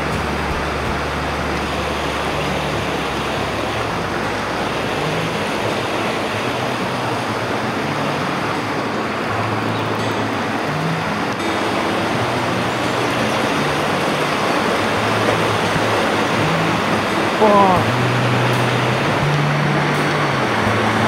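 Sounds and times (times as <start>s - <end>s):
low rumble: 0.0s - 21.0s
stream rushing over rocks: 0.0s - 21.0s.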